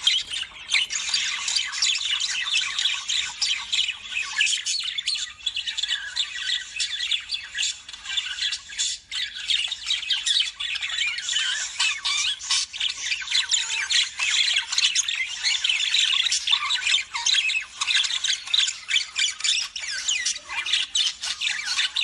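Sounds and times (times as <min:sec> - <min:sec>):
lovebirds chattering and squawking: 0:00.0 - 0:22.0.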